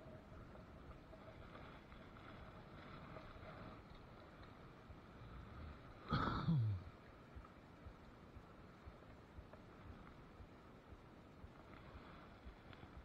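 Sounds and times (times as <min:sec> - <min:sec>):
faint river noise: 0:00.0 - 0:13.0.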